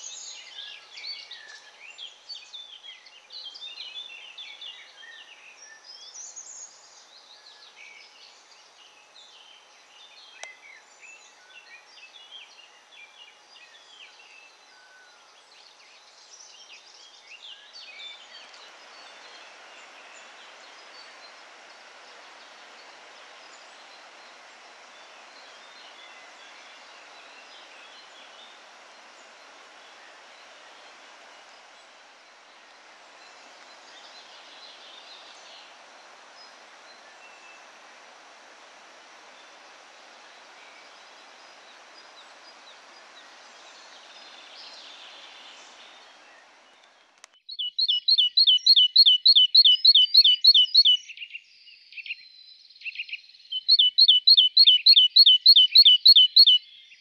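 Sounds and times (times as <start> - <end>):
steady even hiss: 0.0 - 47.4
songbirds chirping and trilling: 0.0 - 57.0.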